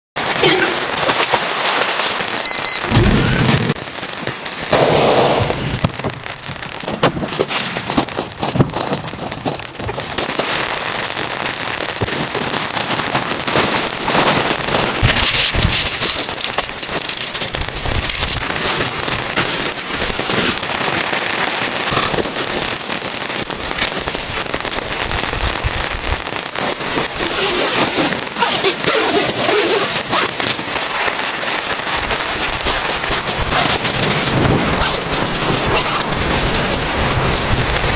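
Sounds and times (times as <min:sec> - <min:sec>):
heavy rain on hard surface: 0:00.2 - 0:37.9.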